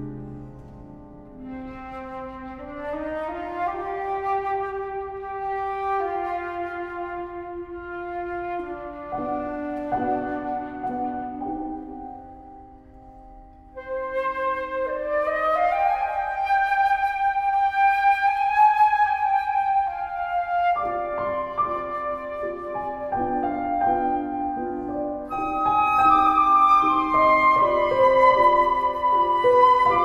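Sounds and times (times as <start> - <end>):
flute melody: 0.0 - 30.0
piano chords: 0.0 - 30.0.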